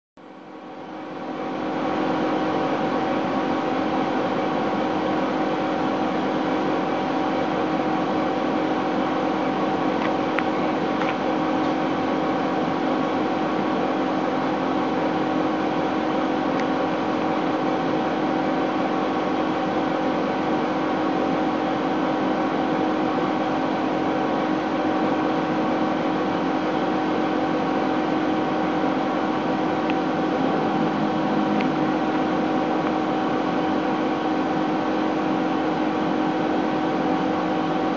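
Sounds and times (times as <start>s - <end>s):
laser engraver humming: 0.2s - 37.9s.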